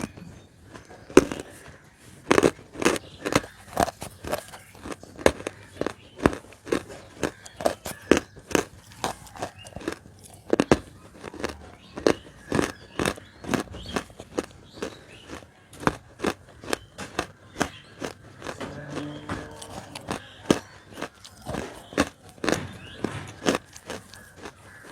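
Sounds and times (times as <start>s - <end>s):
crunching edible clay: 0.0s - 24.9s.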